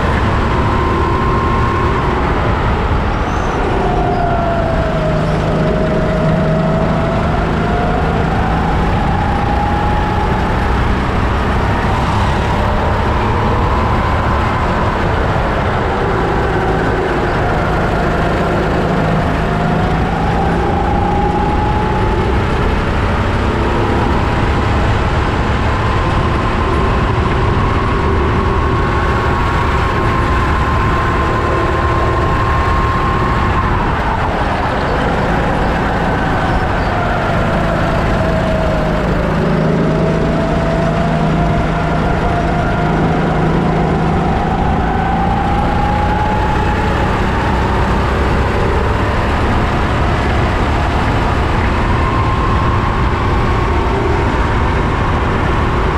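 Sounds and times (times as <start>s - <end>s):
kart engine at racing speed: 0.0s - 55.9s.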